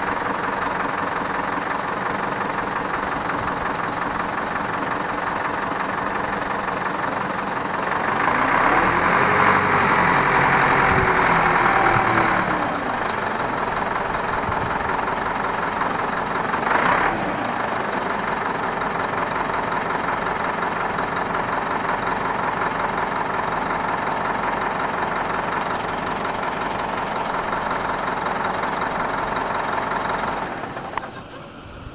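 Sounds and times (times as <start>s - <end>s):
wheel loader diesel engine: 0.0s - 31.9s.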